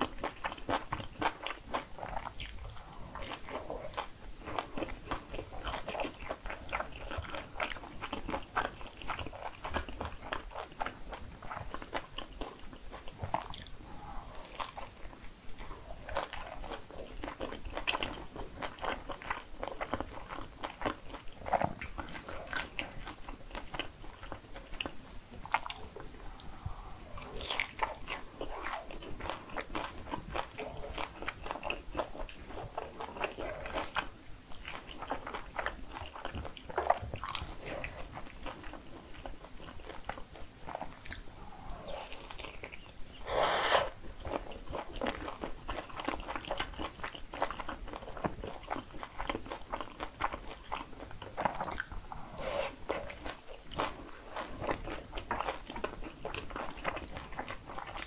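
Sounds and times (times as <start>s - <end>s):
chewing and biting food: 0.0s - 58.0s.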